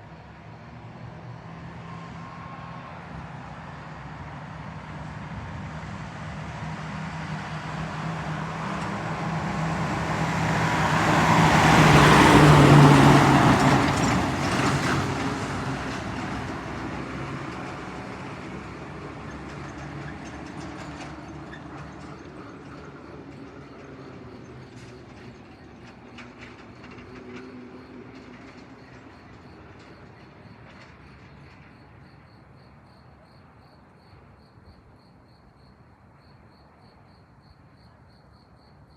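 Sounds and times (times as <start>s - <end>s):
fire engine driving past: 0.0s - 37.0s.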